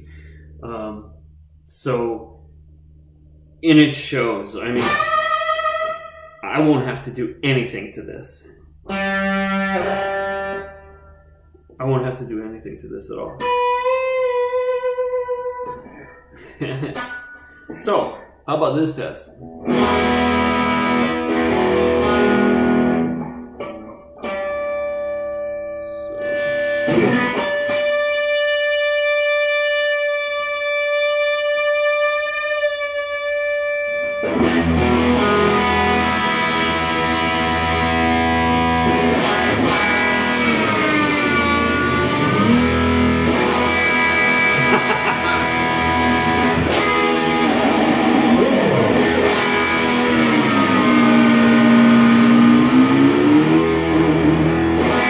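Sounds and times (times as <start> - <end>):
electric guitar playing: 2.6 - 7.1, 8.5 - 11.7, 13.3 - 18.4, 19.3 - 55.0.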